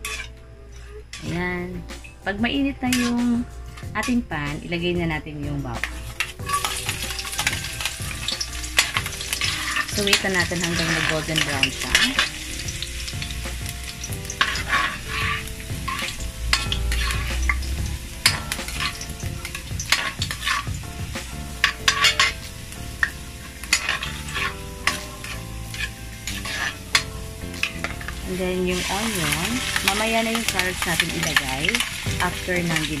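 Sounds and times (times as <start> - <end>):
metal ladle scraping pan: 0.0 - 0.4, 2.9 - 4.2, 5.8 - 12.8, 14.0 - 33.0
garlic sizzling in hot oil: 2.5 - 4.7, 5.6 - 33.0.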